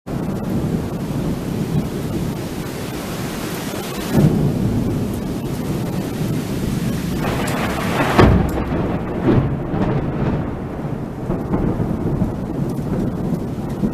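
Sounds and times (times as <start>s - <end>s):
rain hissing: 0.1s - 13.9s
sharp thunder clap: 0.1s - 13.9s
thunder rumbling: 0.1s - 13.9s.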